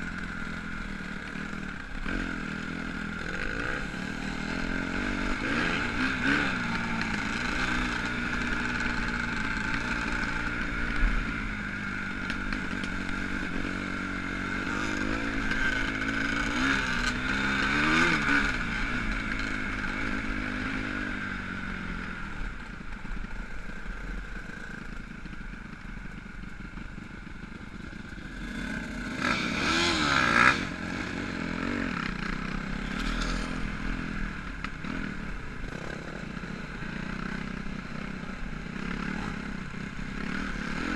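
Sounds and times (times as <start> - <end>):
motocross motorcycle engines revving: 0.0 - 40.9.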